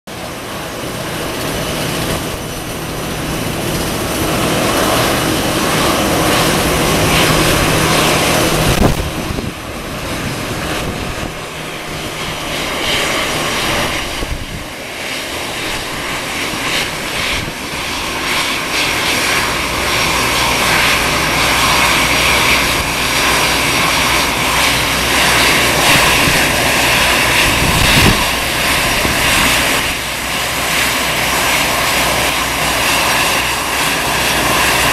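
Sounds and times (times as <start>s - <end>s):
jet engines whining: 0.1s - 34.9s.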